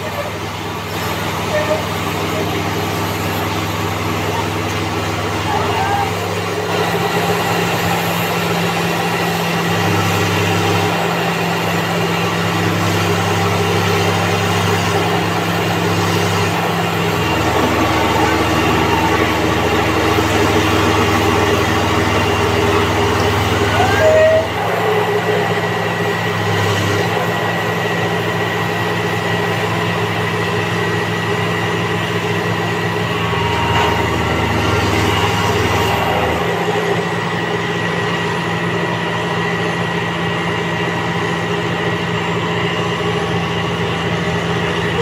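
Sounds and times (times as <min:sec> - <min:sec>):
excavator diesel engines rumbling: 0:00.0 - 0:45.0.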